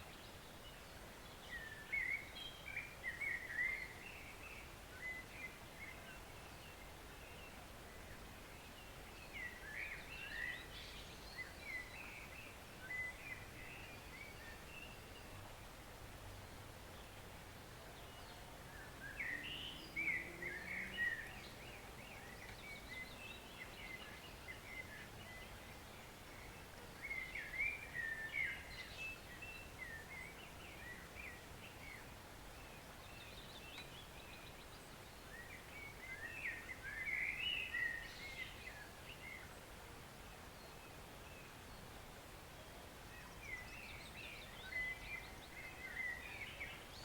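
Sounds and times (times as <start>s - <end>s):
songbird chattering song: 0.0s - 15.6s, 16.9s - 47.0s
forest stream rushing: 0.0s - 47.0s.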